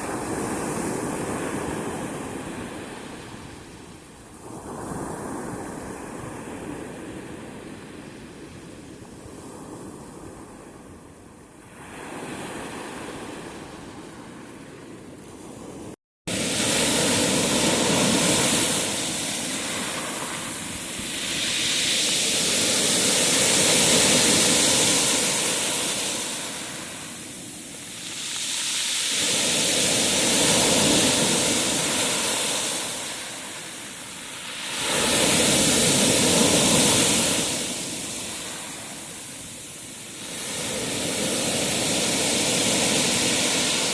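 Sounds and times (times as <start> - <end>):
waves breaking and washing in: 0.0 - 43.9.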